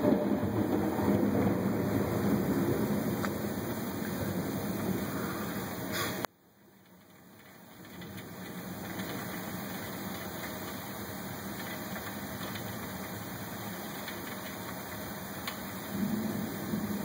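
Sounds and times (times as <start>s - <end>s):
heavy rain through window glass: 0.0s - 17.0s
faint ticks of raindrops: 0.1s - 17.0s.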